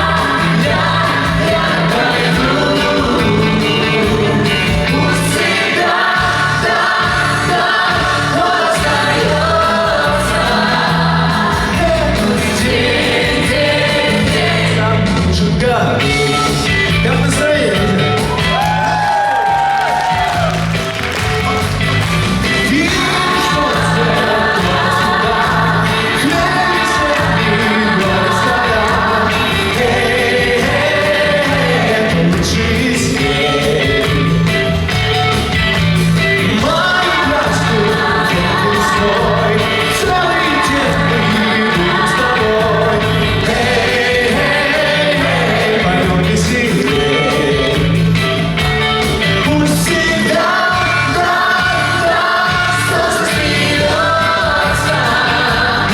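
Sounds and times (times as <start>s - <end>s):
people singing: 0.0s - 20.5s, 22.4s - 55.9s
pop song with band: 0.0s - 55.9s.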